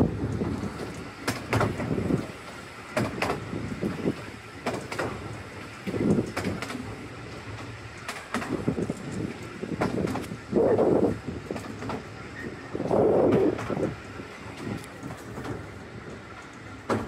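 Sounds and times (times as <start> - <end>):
train carriage rumble: 0.0 - 17.0
wheels clicking over rail joints: 0.0 - 17.0.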